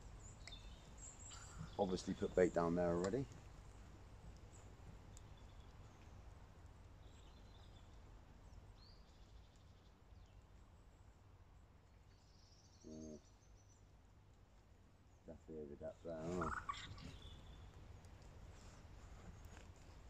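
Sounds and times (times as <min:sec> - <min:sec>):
faint bird chirps: 0:00.0 - 0:11.2, 0:11.9 - 0:13.9, 0:15.1 - 0:19.6.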